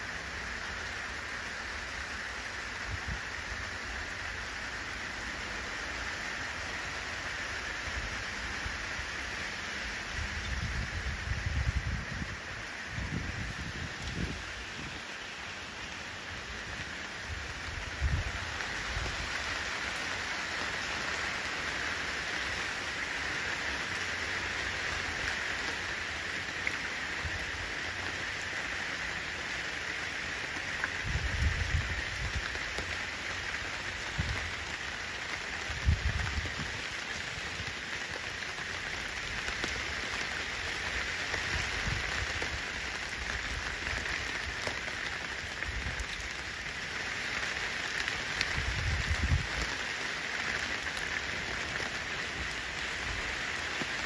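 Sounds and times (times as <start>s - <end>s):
rain falling into puddles: 0.0s - 54.0s.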